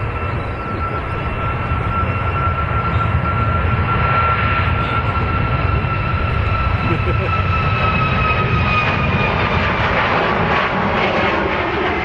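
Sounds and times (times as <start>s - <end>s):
airliner engines whining: 0.0s - 12.0s.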